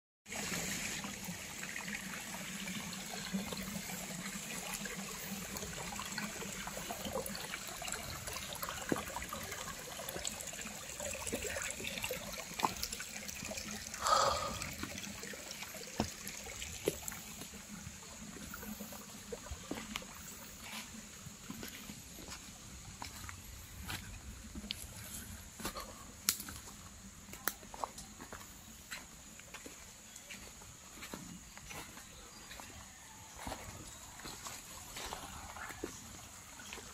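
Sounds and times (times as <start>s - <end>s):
stream trickling over stones: 0.3s - 36.9s.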